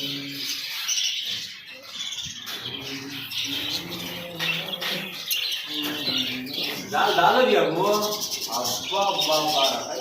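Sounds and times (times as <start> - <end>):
parrots squawking and chirping: 0.0 - 10.0.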